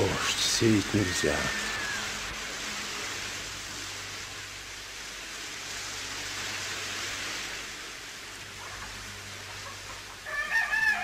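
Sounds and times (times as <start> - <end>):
recording hiss: 0.0 - 11.0.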